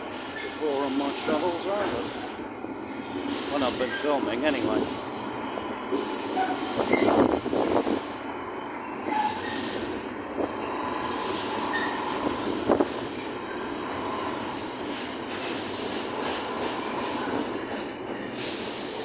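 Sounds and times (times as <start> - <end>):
train running past on rails: 0.0 - 19.0.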